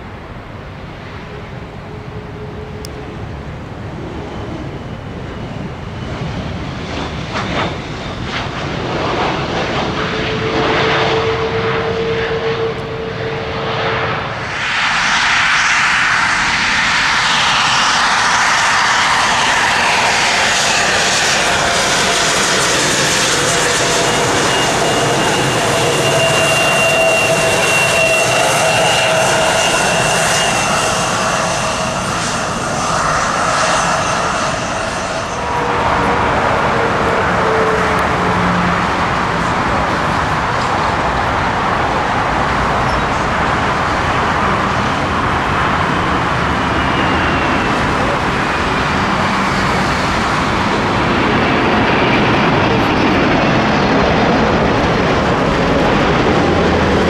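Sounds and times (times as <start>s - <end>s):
high engine whine: 0.0s - 57.0s
jet engines rushing: 0.0s - 57.0s.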